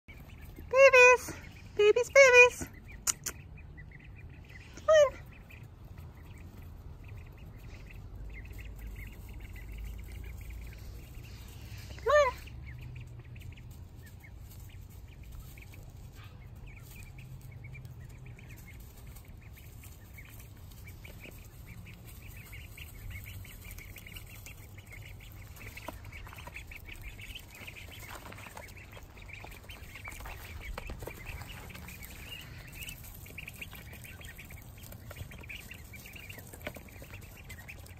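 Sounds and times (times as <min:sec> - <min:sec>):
ducklings peeping: 0:00.0 - 0:37.9.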